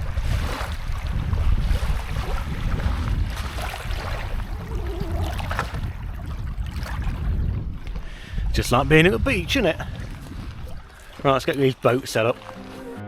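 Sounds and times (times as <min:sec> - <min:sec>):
wind buffeting the microphone: 0:00.0 - 0:12.2.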